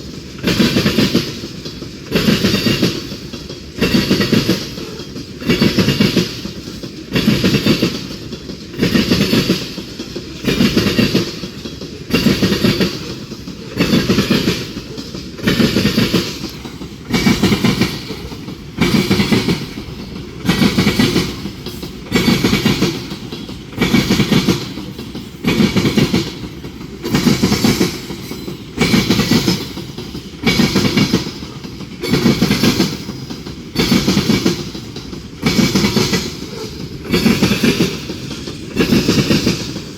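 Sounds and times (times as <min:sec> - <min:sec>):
train wheels clattering over track: 0:00.0 - 0:39.9.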